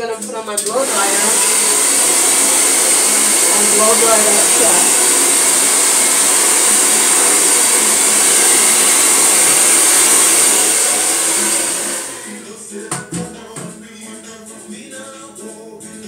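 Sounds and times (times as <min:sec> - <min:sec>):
hair dryer blowing: 0:00.0 - 0:13.3.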